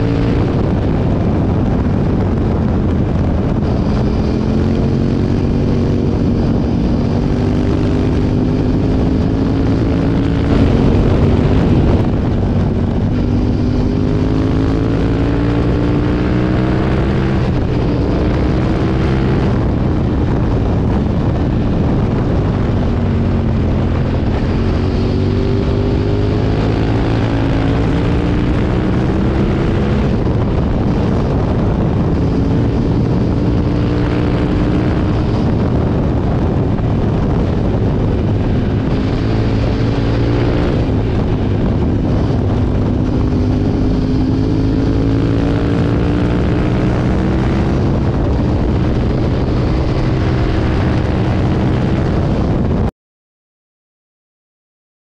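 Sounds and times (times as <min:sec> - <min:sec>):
motorcycle engine revving: 0:00.0 - 0:52.9
wind rush: 0:00.0 - 0:52.9.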